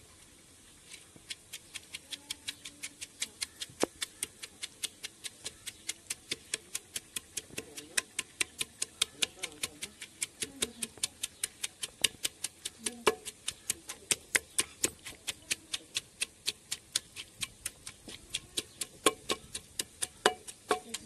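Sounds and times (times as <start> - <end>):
wooden pestle pounding in pot: 1.3 - 21.0.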